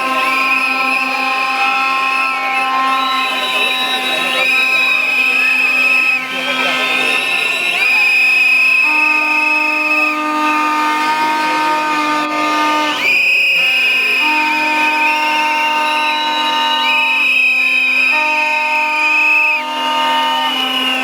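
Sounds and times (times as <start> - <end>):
horns blowing: 0.0 - 21.0
whistles blowing: 0.0 - 21.0.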